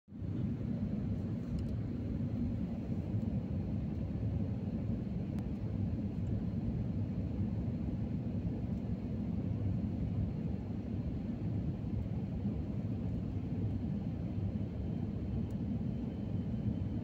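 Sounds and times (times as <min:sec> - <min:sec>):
jet engines rumbling in cabin: 0:00.1 - 0:17.0.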